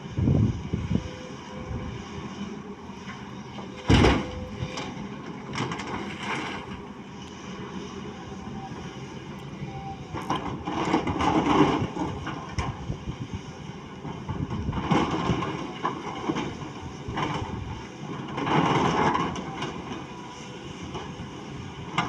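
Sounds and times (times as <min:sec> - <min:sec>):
excavator engine working: 0:00.0 - 0:22.0.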